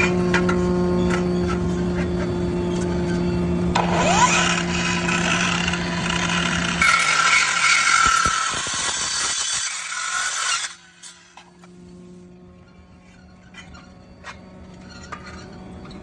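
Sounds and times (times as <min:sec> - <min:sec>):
high-pitched ringing tones: 0:00.0 - 0:16.0
miter saw humming: 0:00.0 - 0:16.0
rising whine: 0:00.0 - 0:16.0.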